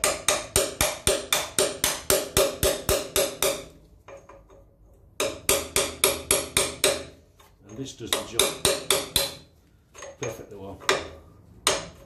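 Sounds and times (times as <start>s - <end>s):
hammer tapping metal punch: 0.0s - 12.0s.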